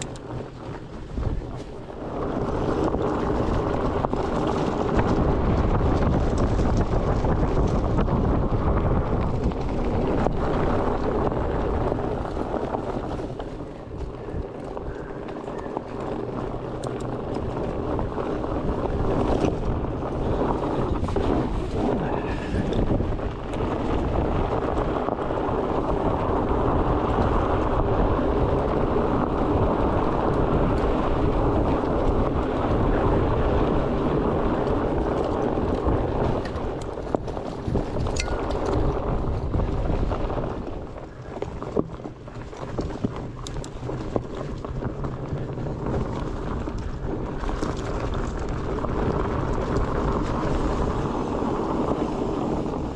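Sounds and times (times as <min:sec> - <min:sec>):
bike tyres rolling on dirt: 0:00.0 - 0:52.9
wind buffeting microphone: 0:00.0 - 0:52.9.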